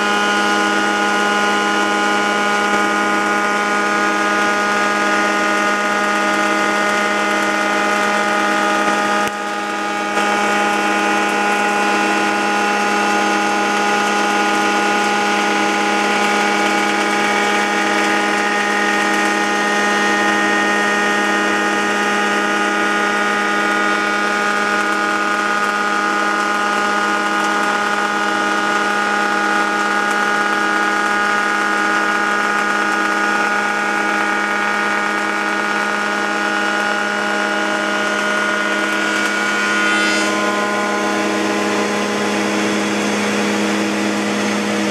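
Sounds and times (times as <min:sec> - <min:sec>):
moulding machine cutter humming: 0:00.0 - 0:44.9.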